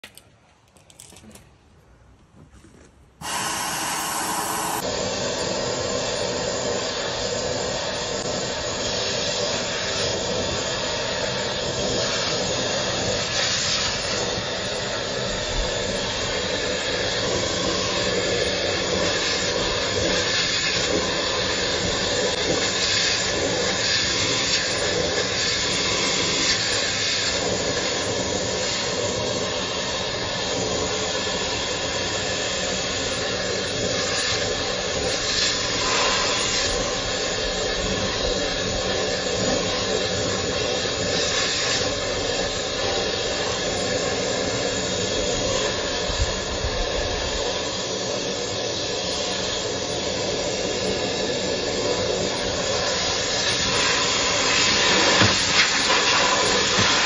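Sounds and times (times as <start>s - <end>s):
rush of air in duct: 3.2s - 57.0s
vent cleaning machine motor: 3.2s - 57.0s.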